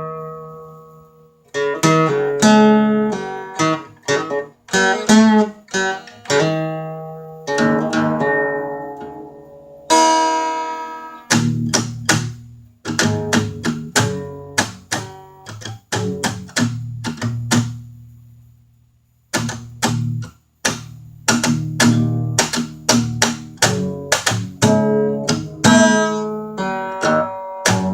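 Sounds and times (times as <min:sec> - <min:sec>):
solo blues guitar: 0:00.0 - 0:18.5, 0:19.3 - 0:27.9.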